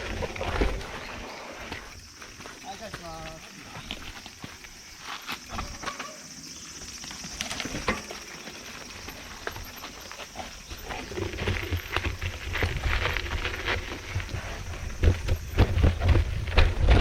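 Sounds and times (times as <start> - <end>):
bike knocking and rattling: 0.0 - 17.0.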